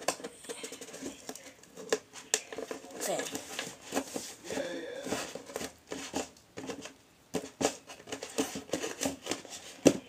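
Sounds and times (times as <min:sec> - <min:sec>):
hands tapping and rustling tape: 0:00.0 - 0:10.0.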